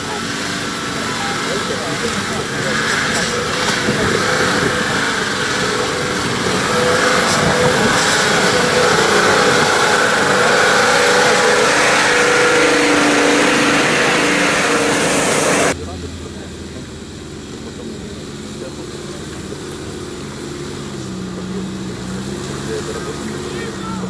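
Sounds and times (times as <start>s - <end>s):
off-road vehicle engine under load: 0.0s - 24.0s.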